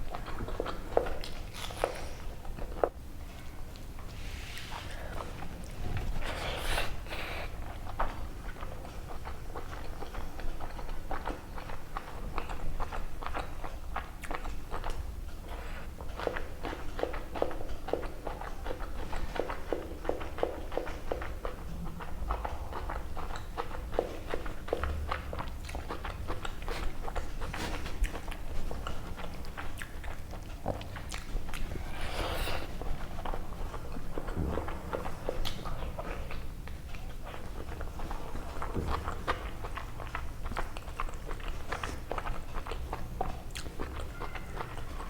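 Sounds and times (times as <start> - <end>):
mouth smacking and chewing: 0.0 - 45.0.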